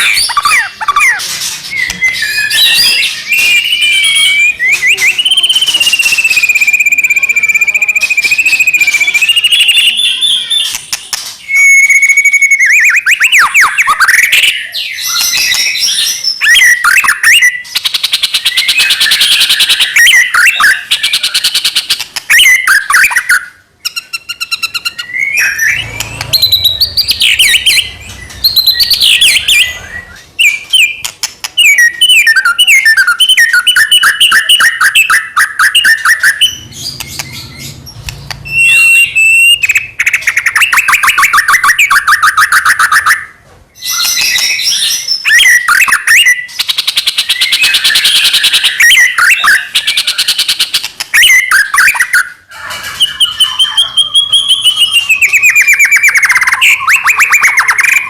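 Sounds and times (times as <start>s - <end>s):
songbird singing whistles and trills: 0.0s - 58.0s.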